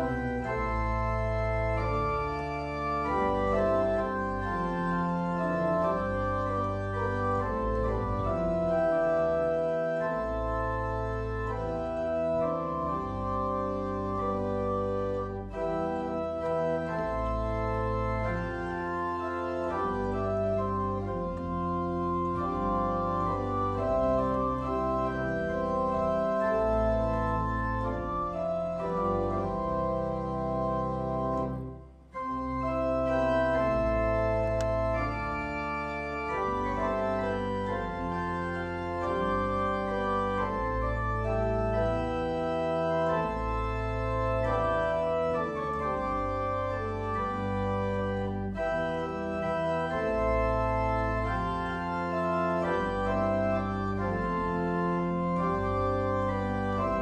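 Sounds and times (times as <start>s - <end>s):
organ playing a hymn: 0.0s - 57.0s.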